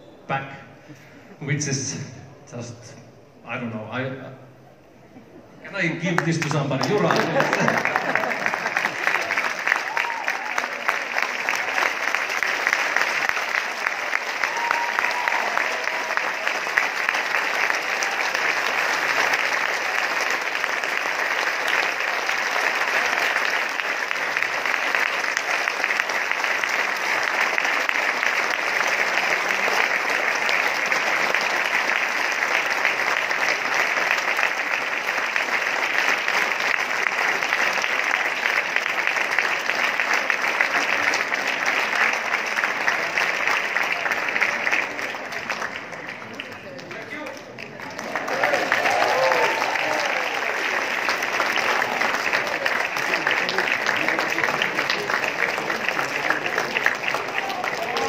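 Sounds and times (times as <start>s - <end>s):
audience applause: 5.7s - 58.0s.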